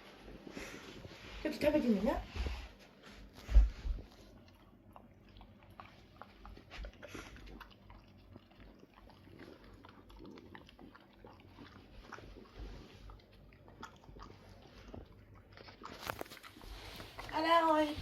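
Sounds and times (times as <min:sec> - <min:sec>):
dog chewing food: 0:03.2 - 0:18.0.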